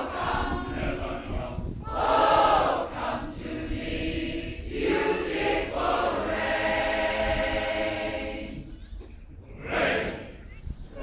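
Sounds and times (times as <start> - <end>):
mixed choir singing: 0.0 - 8.7, 9.5 - 10.4.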